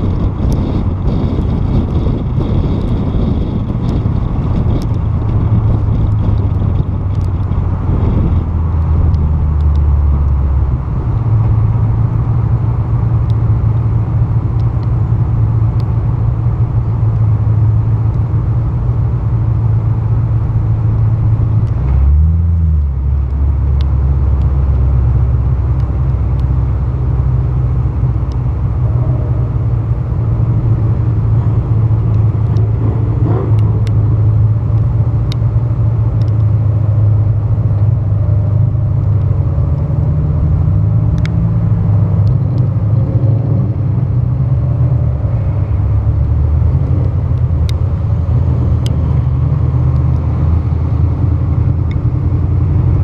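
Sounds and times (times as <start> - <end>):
car engine rumbling: 0.0 - 53.0.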